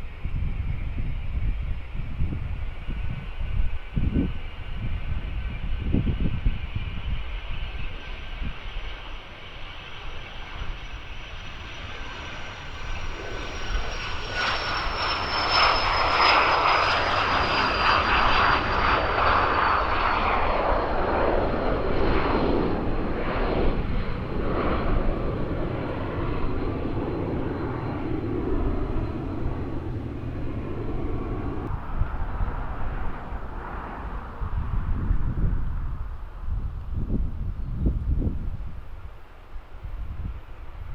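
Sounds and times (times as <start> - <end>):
wind rumble on microphone: 0.0 - 40.9
jet engines whining: 0.1 - 36.5.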